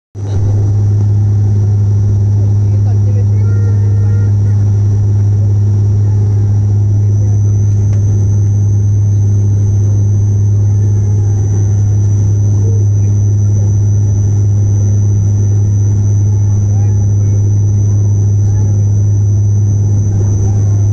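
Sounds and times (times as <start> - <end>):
high engine whine: 0.2 - 20.9
propeller engine drone: 0.2 - 20.9.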